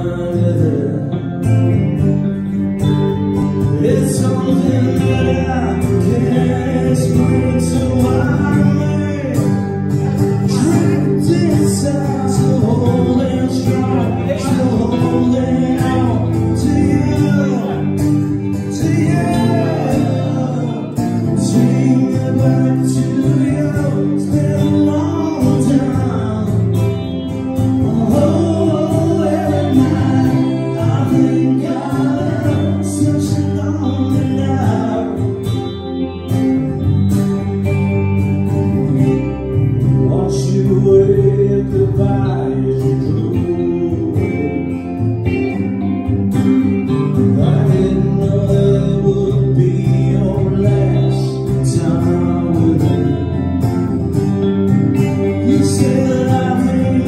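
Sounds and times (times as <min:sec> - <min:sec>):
person singing: 0:00.0 - 0:37.7, 0:39.3 - 0:57.0
live band playing: 0:00.0 - 0:57.0.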